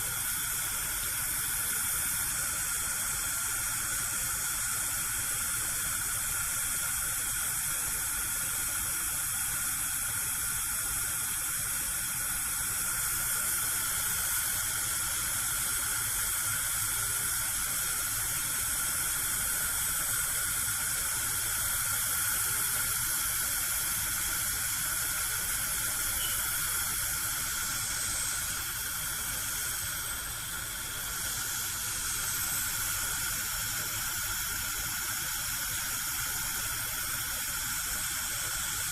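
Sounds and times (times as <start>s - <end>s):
gas burner hissing: 0.0s - 38.9s.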